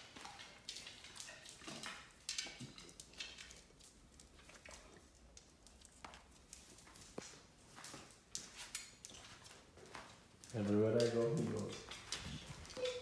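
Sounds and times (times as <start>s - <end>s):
dog claws clicking on hard floor: 0.1s - 13.0s.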